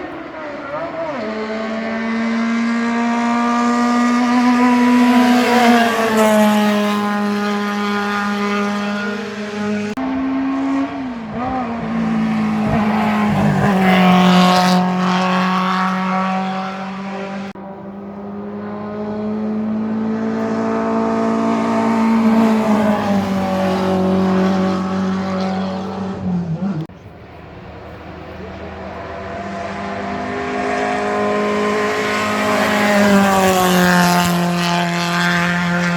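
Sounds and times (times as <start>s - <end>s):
racing car engines at high revs: 0.0s - 35.9s.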